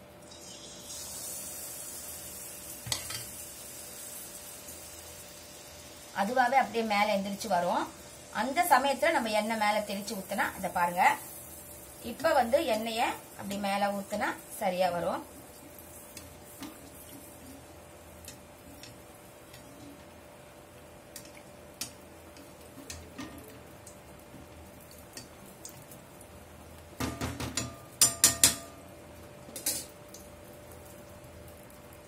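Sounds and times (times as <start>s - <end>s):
oil sizzling: 0.0s - 32.0s.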